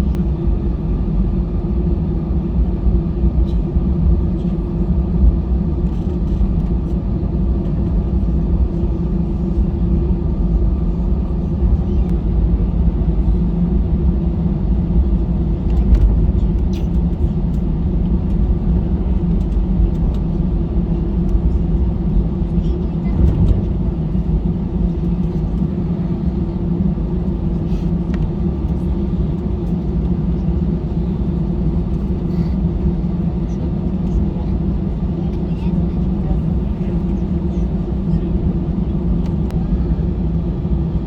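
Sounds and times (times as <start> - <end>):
constant hum: 0.0 - 41.0
low rumble of wheels and engines: 0.0 - 41.0.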